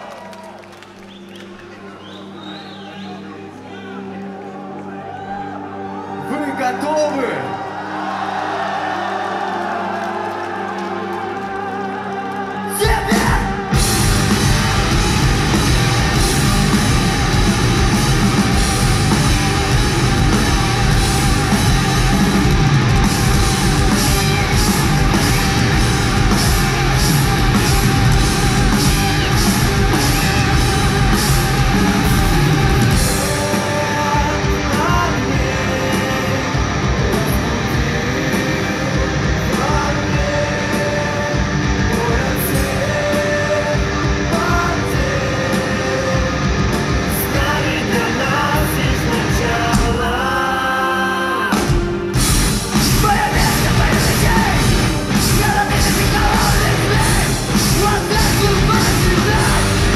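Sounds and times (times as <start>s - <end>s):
vocals: 1.1s - 59.9s
heavy distorted guitars: 5.5s - 59.9s
metal band playing live: 6.2s - 59.9s
drums: 8.2s - 59.9s.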